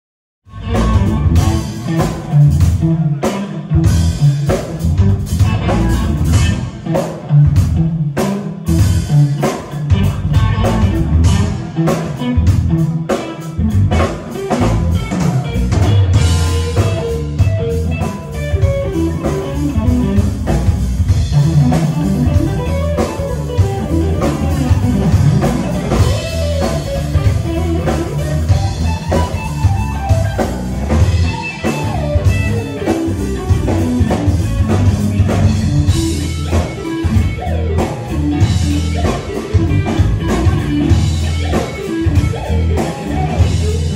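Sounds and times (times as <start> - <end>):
electric bass: 0.4 - 43.9
electric guitar lead lines: 0.4 - 43.9
drum kit: 0.5 - 43.9.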